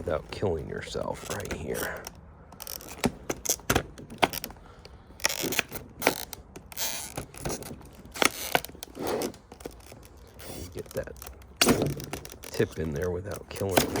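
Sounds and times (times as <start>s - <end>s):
metallic lock clicks and scrapes: 1.2s - 4.6s, 5.2s - 14.0s.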